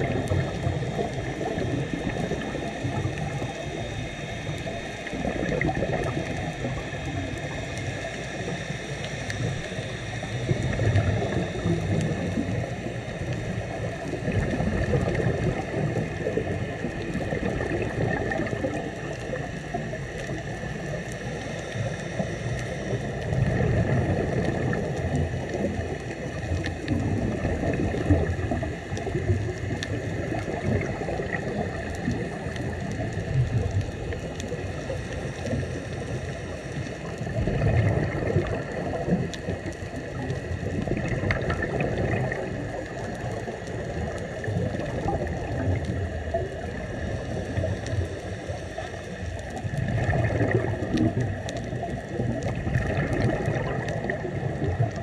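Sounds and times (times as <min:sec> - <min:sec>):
exhaled bubbles: 0:00.0 - 0:55.0.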